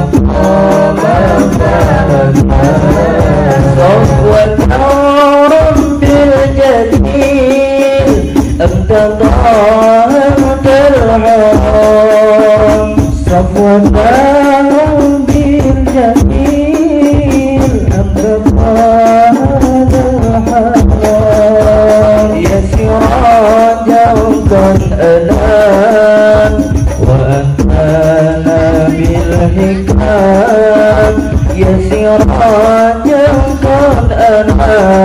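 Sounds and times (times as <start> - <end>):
hand-struck frame drums: 0.0 - 35.0
men singing into microphones: 0.0 - 35.0.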